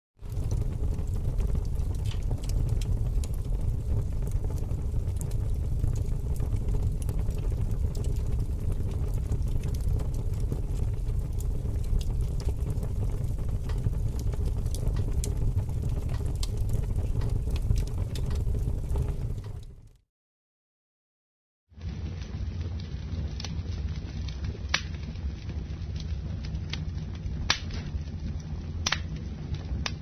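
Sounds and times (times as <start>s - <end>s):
fire crackles and pops: 0.2s - 20.0s, 21.8s - 30.0s
fire flames rushing: 0.2s - 20.0s, 21.8s - 30.0s.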